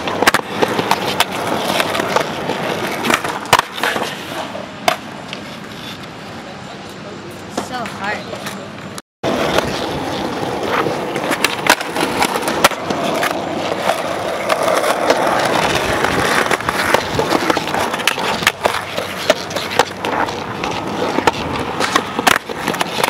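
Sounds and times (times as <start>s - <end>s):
skateboard clicks and knocks: 0.0s - 23.0s
skateboard wheels rolling on concrete: 0.0s - 23.0s.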